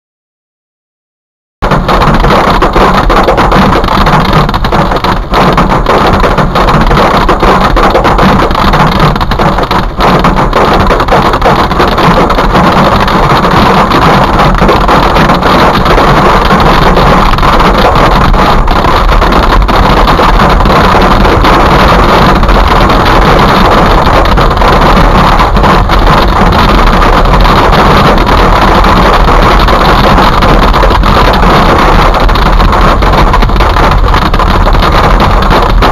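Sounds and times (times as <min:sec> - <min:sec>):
hail and rain on car roof: 0:01.6 - 0:35.9.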